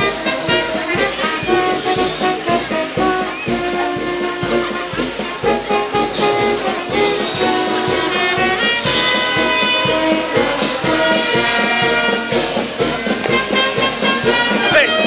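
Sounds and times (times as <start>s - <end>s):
brass band music: 0.0s - 15.0s
steady drum beat: 0.0s - 15.0s.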